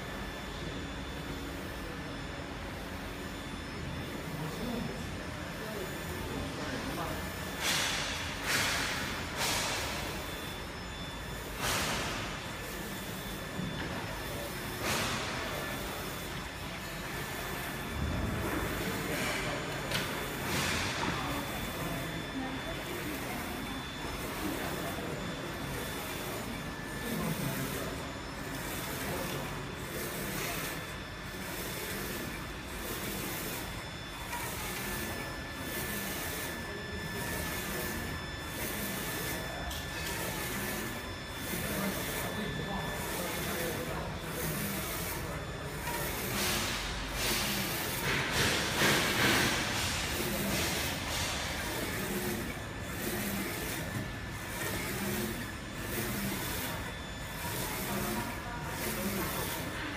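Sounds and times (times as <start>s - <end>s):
printer machine hum: 0.0s - 59.9s.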